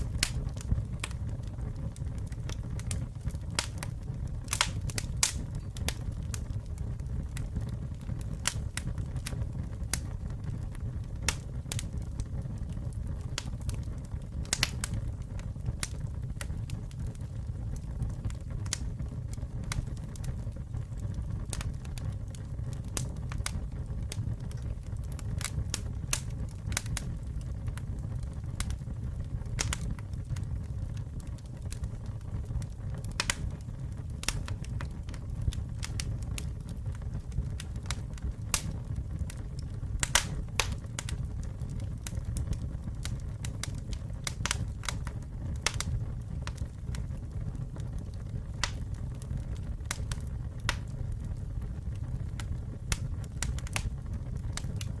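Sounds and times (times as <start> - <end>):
campfire flames rumbling: 0.0 - 55.0
wood crackling and popping: 0.0 - 55.0.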